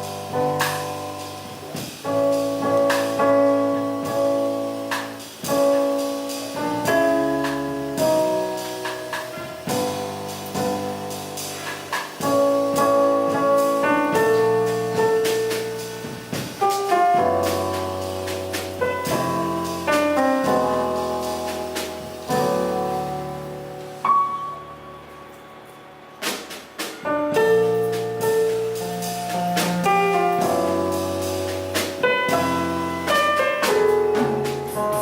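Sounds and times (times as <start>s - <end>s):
jazz piano chords: 0.0s - 35.0s.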